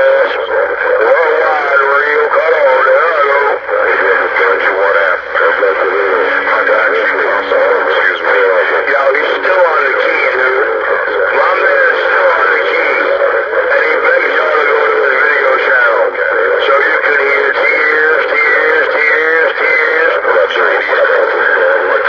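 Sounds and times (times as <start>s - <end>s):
garbled voices over radio: 0.0s - 22.0s.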